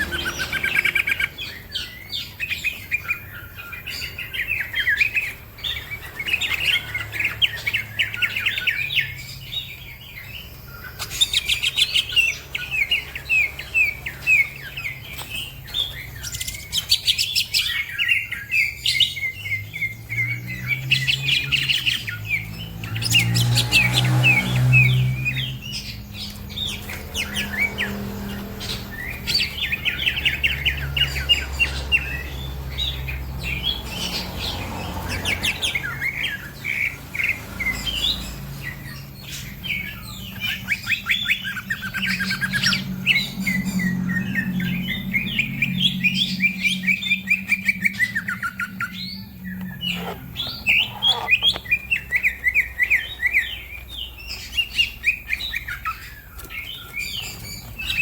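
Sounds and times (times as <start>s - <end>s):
birds chirping trills: 0.0s - 58.0s.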